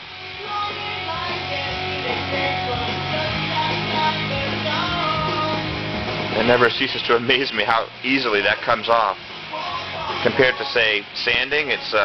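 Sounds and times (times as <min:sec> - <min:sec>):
guitar music: 0:00.0 - 0:12.0
steady bass line: 0:00.0 - 0:12.0.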